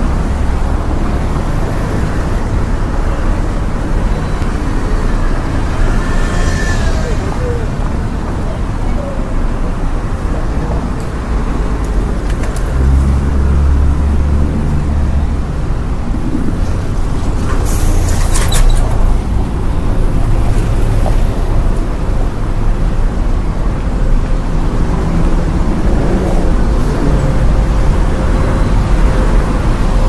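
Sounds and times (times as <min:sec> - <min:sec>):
passing traffic rumble: 0:00.0 - 0:30.0
vehicle engine rumble: 0:00.0 - 0:30.0.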